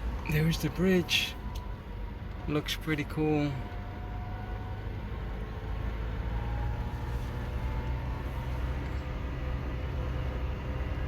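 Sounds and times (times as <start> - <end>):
engine and road noise in cab: 0.0 - 11.0.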